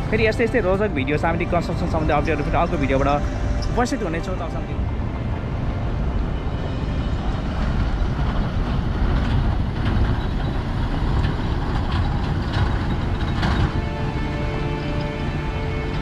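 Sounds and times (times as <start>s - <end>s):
heavy road traffic rumble: 0.0s - 16.0s.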